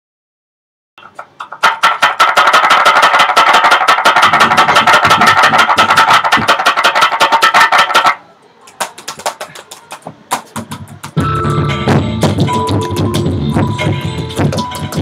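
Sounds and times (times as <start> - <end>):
fast beat of sharp clicks: 1.0 - 8.2, 8.8 - 15.0.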